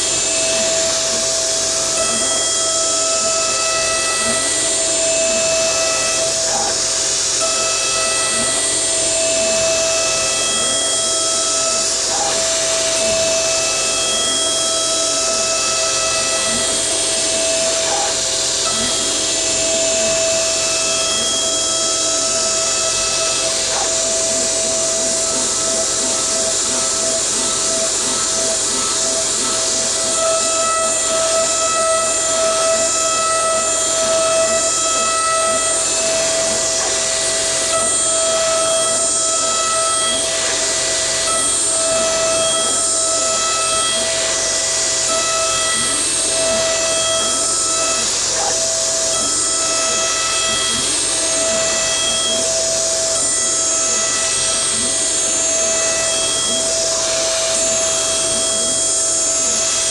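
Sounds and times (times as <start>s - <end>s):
motors whining: 0.0s - 59.9s
router spindle running: 0.0s - 59.9s.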